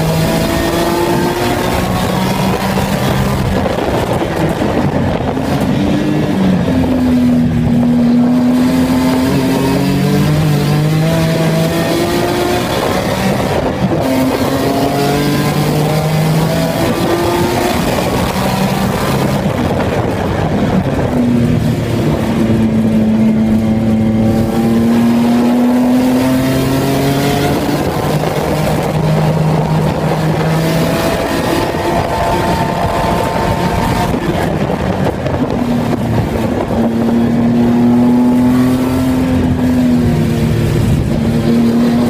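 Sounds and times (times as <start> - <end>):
car engine accelerating: 0.0 - 42.0
road and wind noise: 0.0 - 42.0.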